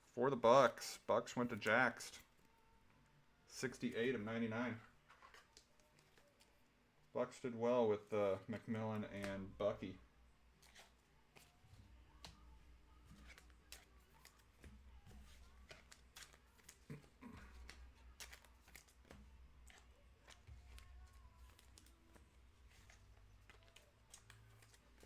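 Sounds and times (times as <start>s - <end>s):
trading cards clicking and rustling: 0.4s - 2.7s, 3.5s - 7.1s, 8.0s - 25.0s.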